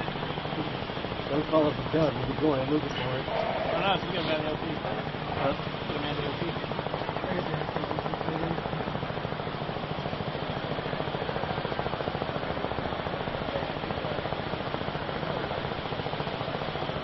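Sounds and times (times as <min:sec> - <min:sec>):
pulsing machine noise: 0:00.0 - 0:17.0.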